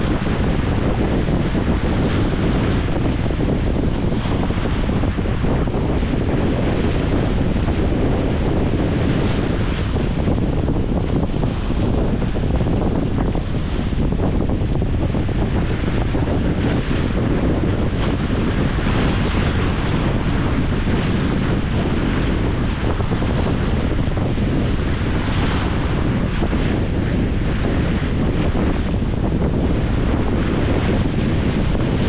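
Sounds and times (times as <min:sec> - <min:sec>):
waves splashing against concrete: 0:00.0 - 0:32.0
wind buffeting microphone: 0:00.0 - 0:32.0.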